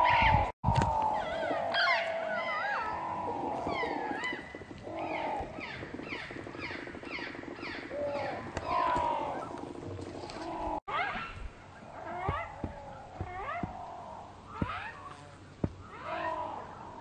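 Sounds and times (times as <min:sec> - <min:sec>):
wavering bird calls: 0:00.0 - 0:17.0.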